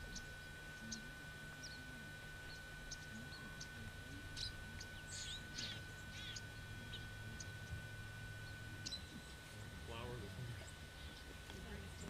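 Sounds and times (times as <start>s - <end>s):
birds chirping faintly: 0.0s - 12.0s
low hum: 0.0s - 12.0s
steady high-pitched tone: 0.0s - 12.0s.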